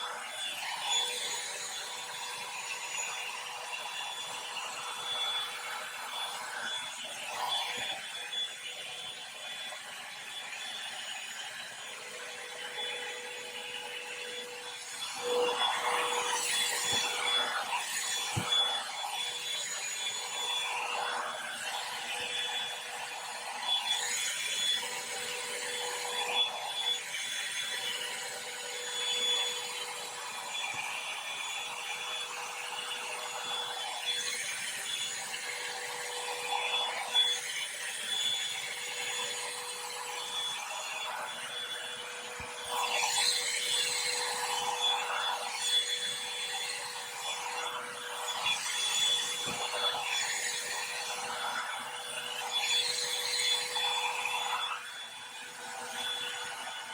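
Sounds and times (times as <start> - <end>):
hair dryer whine and rushing air: 0.0 - 56.9.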